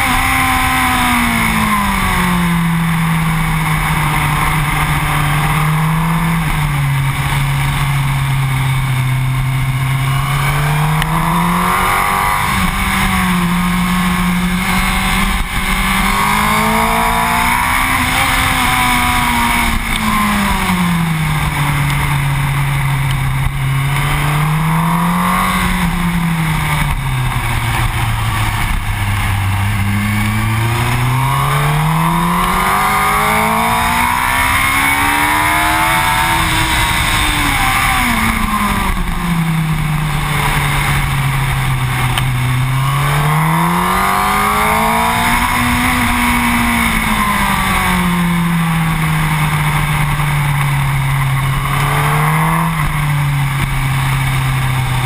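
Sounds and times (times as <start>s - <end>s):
motorcycle engine revving: 0.0s - 55.0s
wind rushing over microphone: 0.0s - 55.0s.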